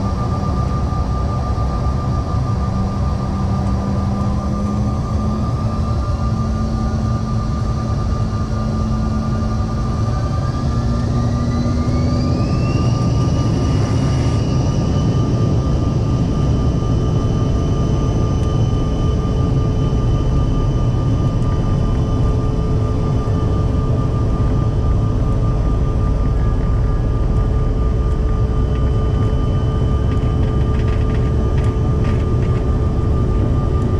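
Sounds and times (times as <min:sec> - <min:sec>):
jet engine whine: 0:00.0 - 0:33.9
deep rumble: 0:02.6 - 0:33.9.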